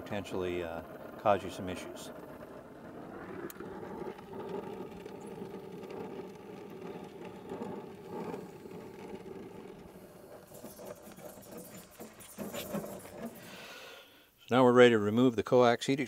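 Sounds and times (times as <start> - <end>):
torch flame hissing: 0.0 - 14.2.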